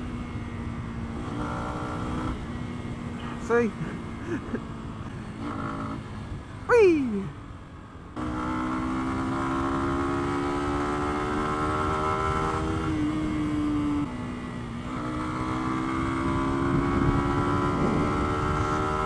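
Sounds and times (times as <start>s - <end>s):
motorcycle engine accelerating: 0.0s - 6.5s, 8.1s - 19.0s
wind and road rumble: 0.0s - 19.0s.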